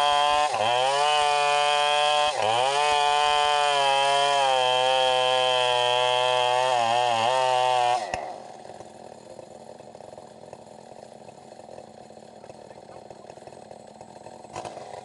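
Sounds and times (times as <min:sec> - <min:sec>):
chainsaw running at high revs: 0:00.0 - 0:15.0.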